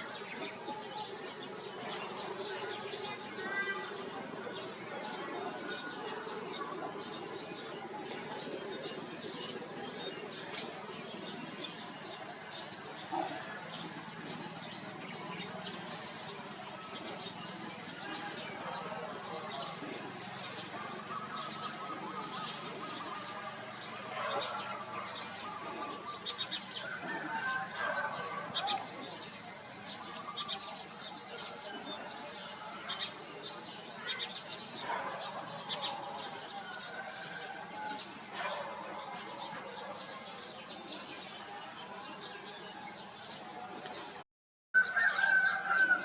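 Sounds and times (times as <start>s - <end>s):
outdoor background noise: 0.0s - 44.2s, 44.8s - 46.0s.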